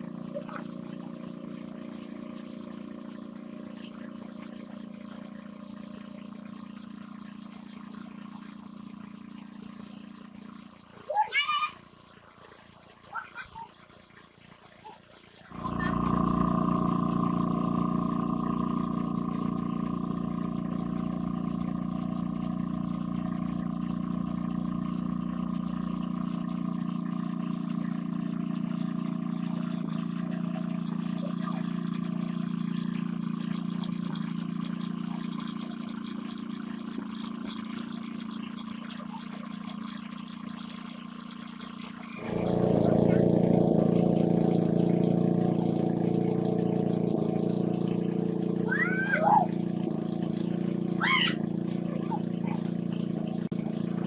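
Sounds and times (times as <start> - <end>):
small motor running: 0.0 - 54.0
water trickling and pouring: 0.0 - 54.0.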